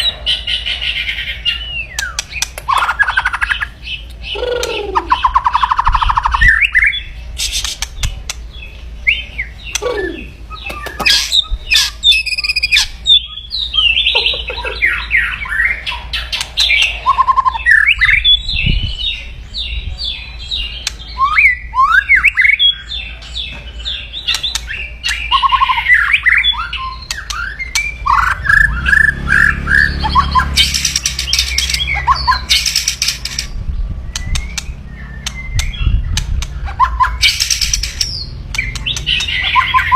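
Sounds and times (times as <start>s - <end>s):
bird harsh rattling calls: 0.0s - 6.5s, 7.4s - 18.0s, 22.8s - 39.9s.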